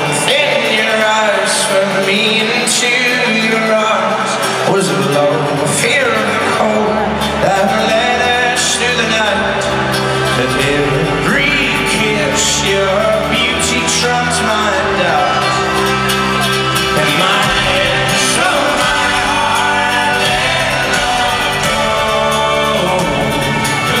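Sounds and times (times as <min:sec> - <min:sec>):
folk-rock band playing: 0:00.0 - 0:24.0
person singing: 0:00.0 - 0:24.0.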